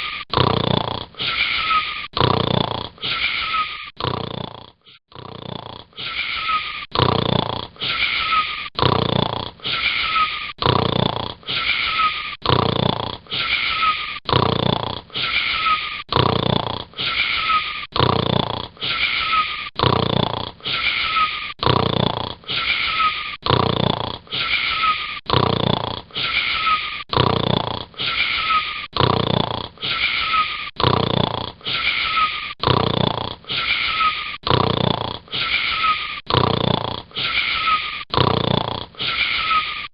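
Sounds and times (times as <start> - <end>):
snoring with whistling wheeze: 0.0 - 39.9.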